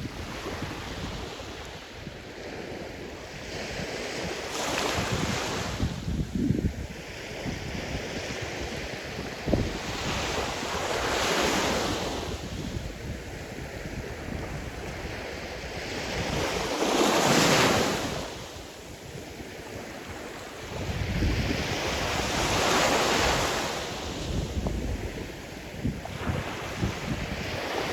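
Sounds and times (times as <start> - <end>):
wind rumble on microphone: 0.0 - 27.9.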